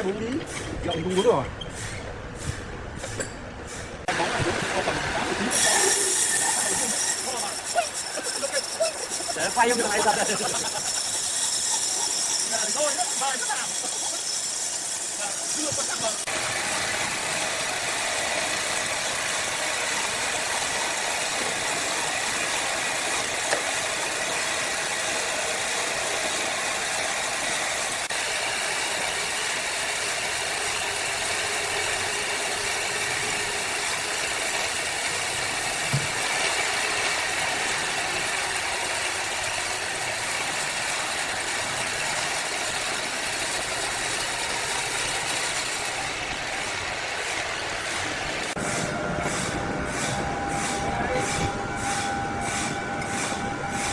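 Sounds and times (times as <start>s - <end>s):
sawmill machinery hissing: 0.0s - 53.9s.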